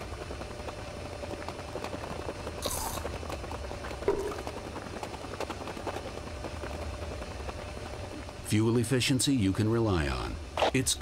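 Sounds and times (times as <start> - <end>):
treadmill motor hum: 0.0 - 11.0.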